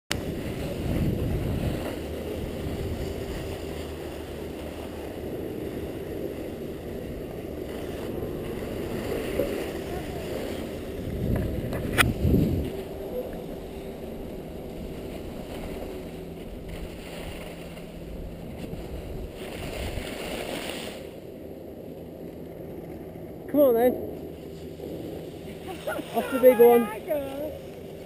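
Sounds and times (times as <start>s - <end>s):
skis scraping over snow: 0.1s - 21.9s, 24.4s - 28.0s
wind rushing over microphone: 0.1s - 28.0s.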